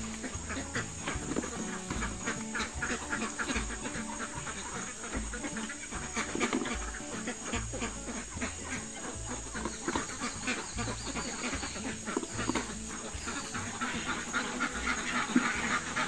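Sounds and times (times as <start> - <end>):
background music: 0.0 - 16.0
ducks quacking: 0.0 - 16.0.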